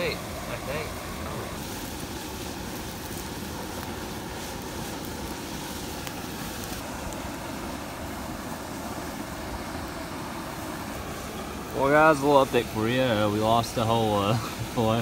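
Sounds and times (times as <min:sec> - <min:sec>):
camp stove burner hissing: 0:00.0 - 0:15.0.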